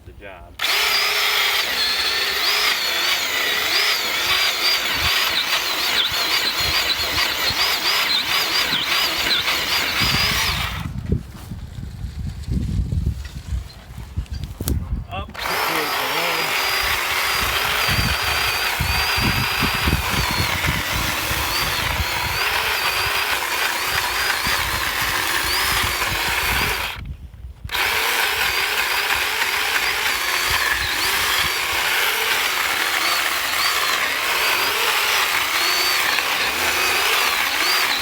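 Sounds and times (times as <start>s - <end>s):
electric chainsaw cutting wood: 0.6s - 11.0s, 15.3s - 27.1s, 27.7s - 38.0s.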